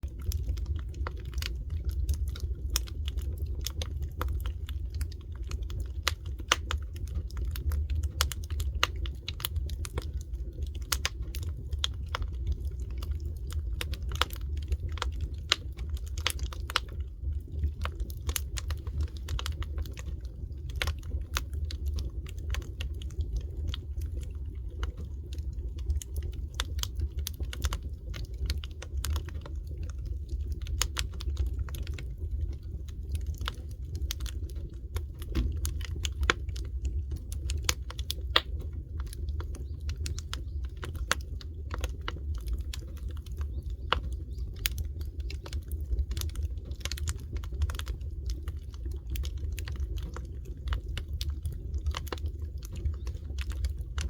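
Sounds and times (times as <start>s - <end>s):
low rumble: 0.0s - 54.0s
wood fire crackling: 0.0s - 54.0s.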